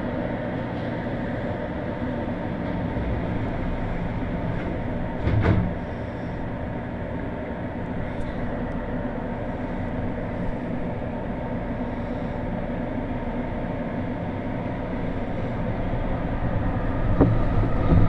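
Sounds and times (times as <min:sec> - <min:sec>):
train cabin hum: 0:00.0 - 0:18.0.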